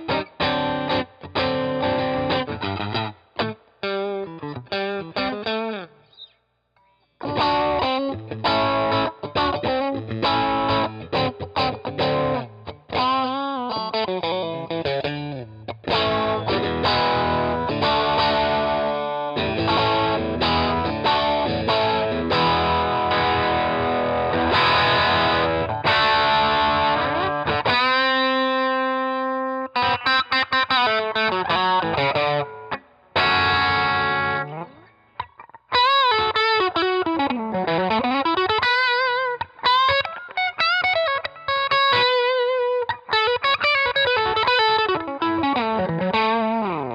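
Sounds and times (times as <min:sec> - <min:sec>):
distorted electric guitar: 0:00.0 - 0:06.3, 0:07.2 - 0:46.9.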